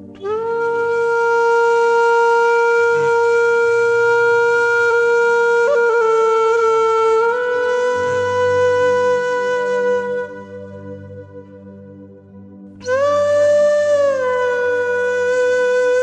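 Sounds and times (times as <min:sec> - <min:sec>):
wind instrument long held note: 0:00.0 - 0:16.0.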